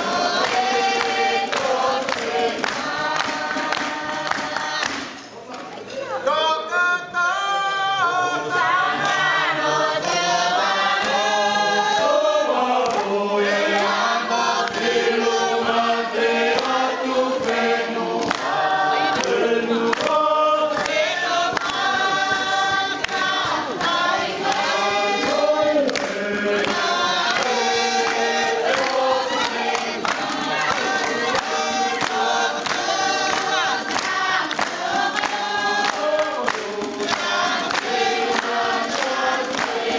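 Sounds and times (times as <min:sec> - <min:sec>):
group singing in chorus: 0:00.0 - 0:05.4, 0:07.0 - 0:39.9.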